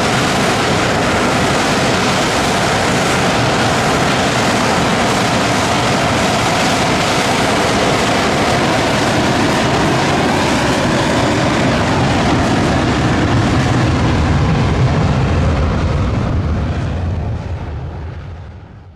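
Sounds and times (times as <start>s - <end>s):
jet engines running: 0.0s - 18.9s.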